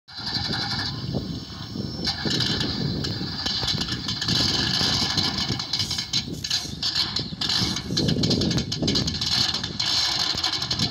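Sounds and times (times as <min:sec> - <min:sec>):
low rumble of tyres on dirt: 0:00.1 - 0:10.9
toy car motor whine: 0:00.1 - 0:10.9.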